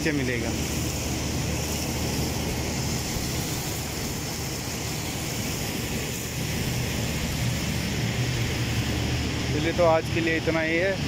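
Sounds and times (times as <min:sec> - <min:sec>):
low machinery hum: 0:00.0 - 0:11.0
water spraying from a hose: 0:00.0 - 0:11.0.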